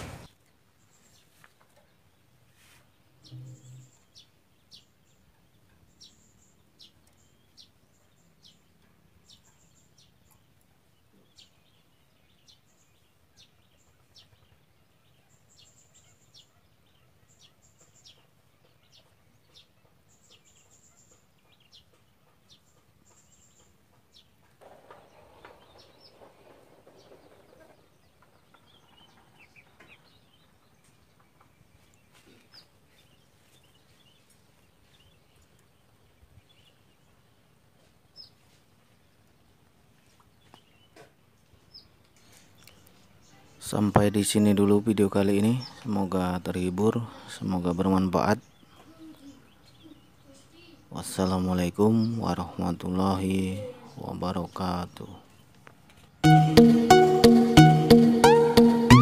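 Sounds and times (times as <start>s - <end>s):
bird chirping: 0.0s - 38.5s, 39.1s - 59.0s.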